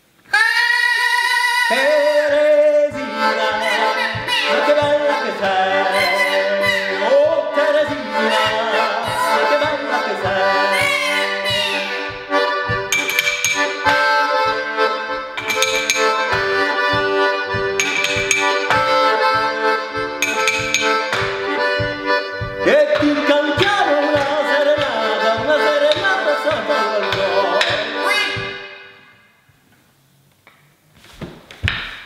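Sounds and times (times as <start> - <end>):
button accordion playing: 2.8 - 29.0.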